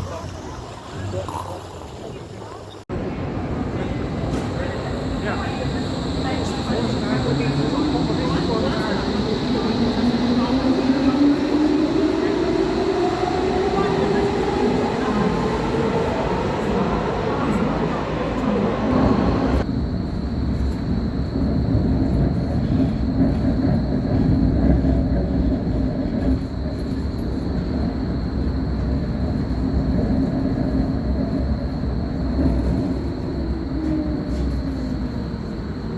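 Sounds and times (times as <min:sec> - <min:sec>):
train rumbling on rails: 0:00.0 - 0:35.9.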